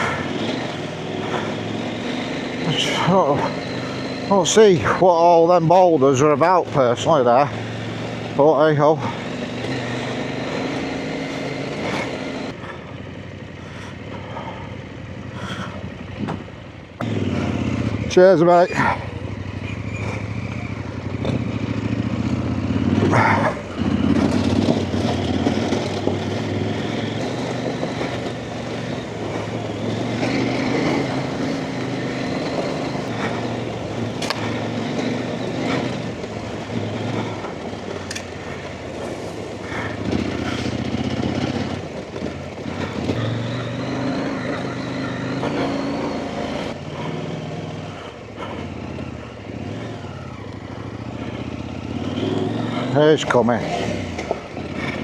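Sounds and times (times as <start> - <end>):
motorcycle engine under changing throttle: 0.0 - 55.0.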